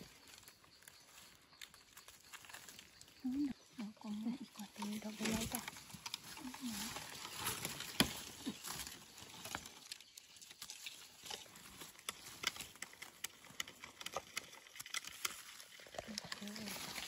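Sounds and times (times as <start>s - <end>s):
dry leaves and twigs rustling: 0.0s - 17.0s
small irregular clicks: 0.1s - 17.0s.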